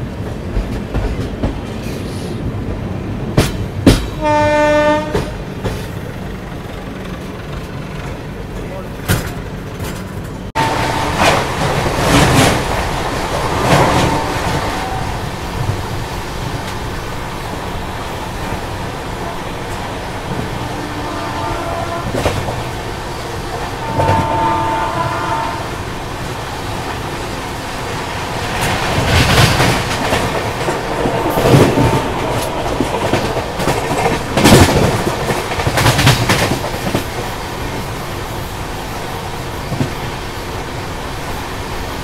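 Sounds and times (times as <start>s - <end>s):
heavy train clatters: 0.0s - 42.0s
train wheels rumbling on rails: 0.0s - 42.0s.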